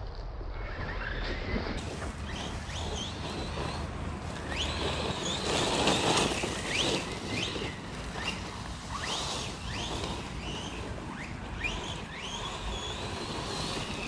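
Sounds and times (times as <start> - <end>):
electric motor whining in bursts: 1.8 - 14.0.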